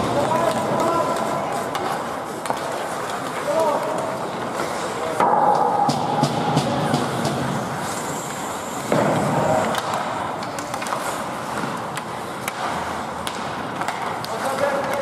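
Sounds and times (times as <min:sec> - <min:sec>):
hockey sticks clicking on puck: 0:00.0 - 0:15.0
skate blades scraping ice: 0:00.0 - 0:15.0.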